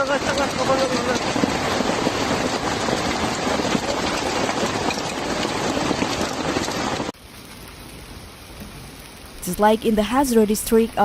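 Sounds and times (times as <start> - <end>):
hail and rain on hard surfaces: 0.0 - 11.0.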